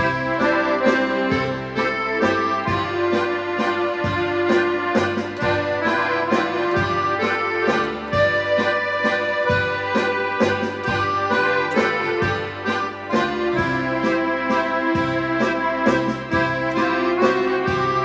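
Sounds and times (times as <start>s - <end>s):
accordion melody: 0.0s - 18.0s
bass line: 0.0s - 18.0s
steady beat: 0.0s - 18.0s.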